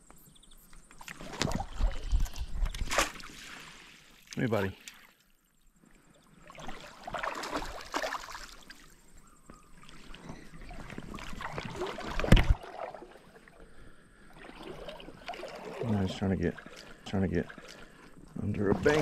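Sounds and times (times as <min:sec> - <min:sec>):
creek water splashing: 0:01.0 - 0:19.0.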